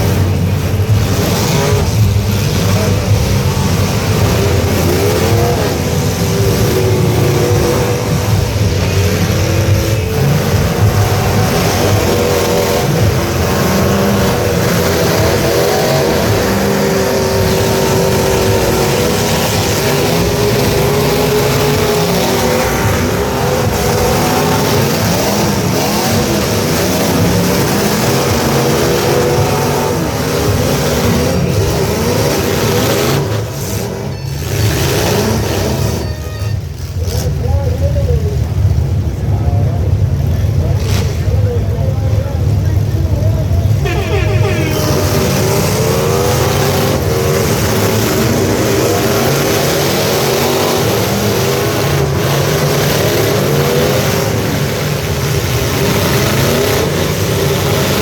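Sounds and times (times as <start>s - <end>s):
truck engines revving: 0.0s - 58.0s.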